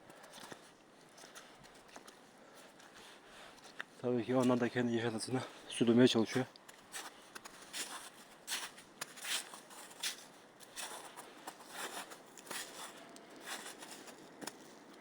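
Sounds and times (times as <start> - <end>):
footsteps crunching on forest floor: 0.1 - 15.0.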